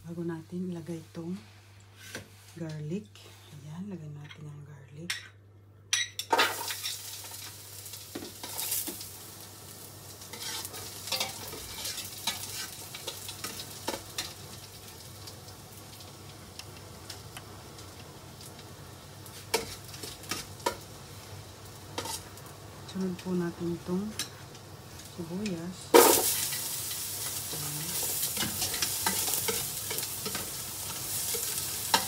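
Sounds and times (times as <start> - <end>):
garlic sizzling in oil: 6.3 - 32.0.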